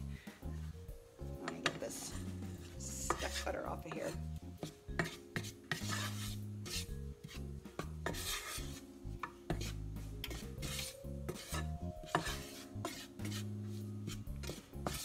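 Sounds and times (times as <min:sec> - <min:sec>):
soft background music: 0:00.0 - 0:15.0
utensil scraping a saucepan: 0:01.4 - 0:15.0.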